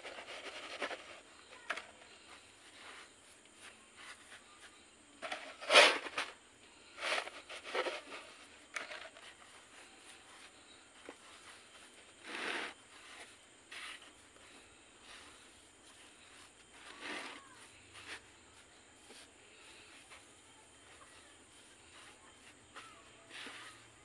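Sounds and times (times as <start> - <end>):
fingers rustling potting mix: 0.0 - 24.0.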